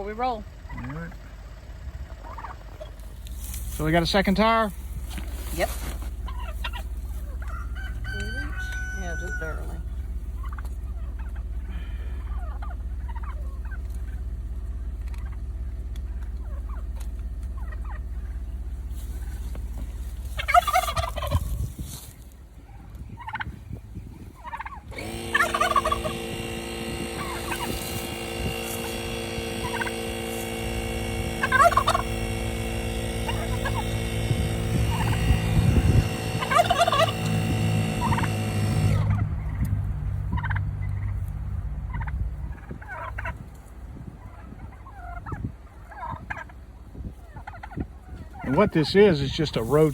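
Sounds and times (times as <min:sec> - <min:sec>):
tire inflator humming: 0:00.0 - 0:49.9
turkeys gobbling: 0:00.0 - 0:49.9.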